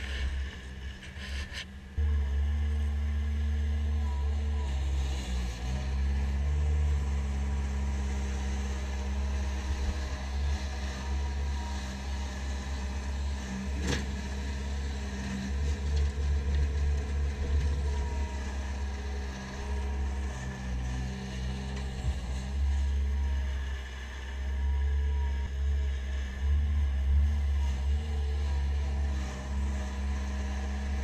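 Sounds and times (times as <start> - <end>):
diesel loader engine working: 0.0 - 31.0.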